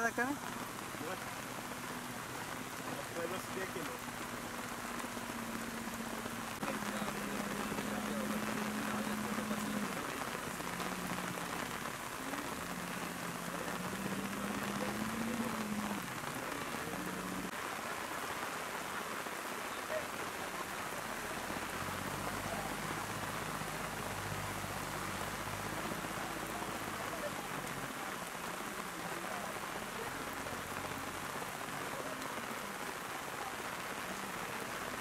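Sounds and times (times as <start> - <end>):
rain on grass and foliage: 0.0 - 35.0.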